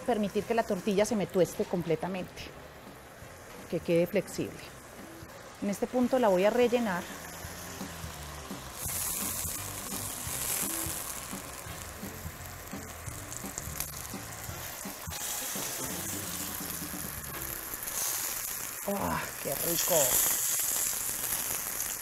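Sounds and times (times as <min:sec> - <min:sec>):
tortilla sizzling in oil: 0:00.0 - 0:22.0.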